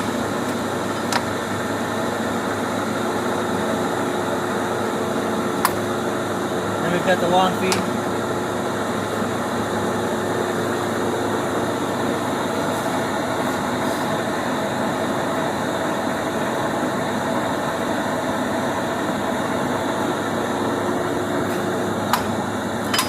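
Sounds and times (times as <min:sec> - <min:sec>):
lathe motor humming: 0:00.0 - 0:22.9.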